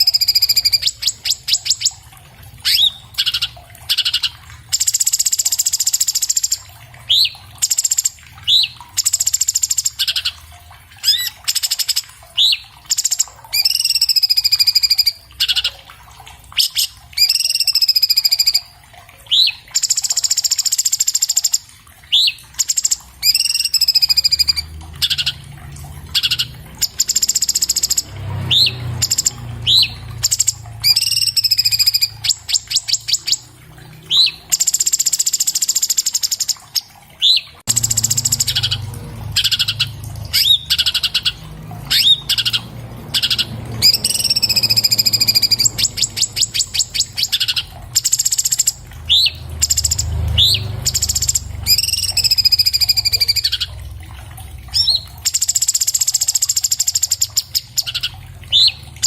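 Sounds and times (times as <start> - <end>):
bird singing varied song: 0.0 - 2.0, 2.6 - 10.4, 11.0 - 15.8, 16.5 - 18.7, 19.3 - 25.5, 26.1 - 53.8, 54.7 - 58.8.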